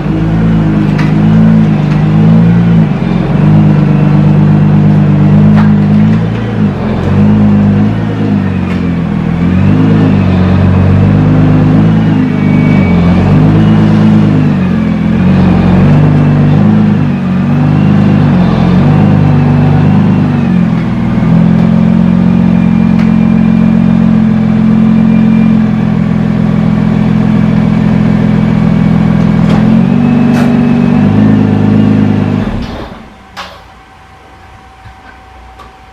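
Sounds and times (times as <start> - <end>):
car engine revving: 0.0 - 33.3.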